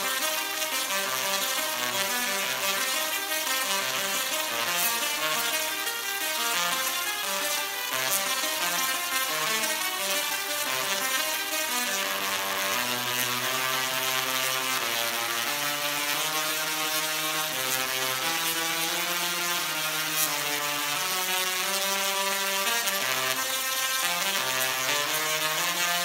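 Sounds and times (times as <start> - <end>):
crackling hiss of sparks: 0.0 - 26.0
tesla coil buzzing tune: 0.0 - 26.0.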